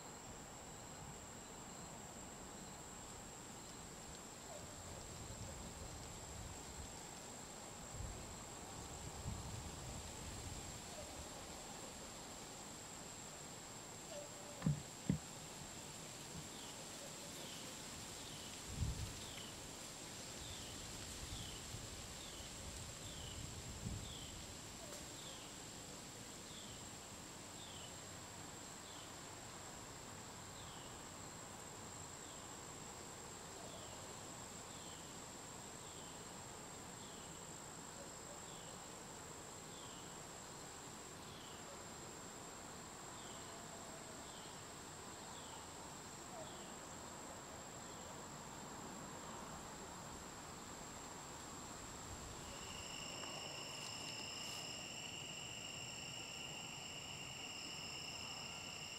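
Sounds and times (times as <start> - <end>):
falling insect chirp: 0.0 - 37.7, 38.5 - 41.6, 44.2 - 58.9
insect drone: 0.0 - 58.9.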